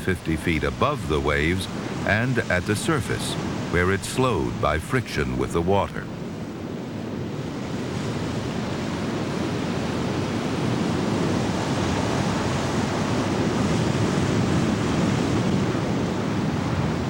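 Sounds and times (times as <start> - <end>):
ocean surf: 0.0 - 17.0.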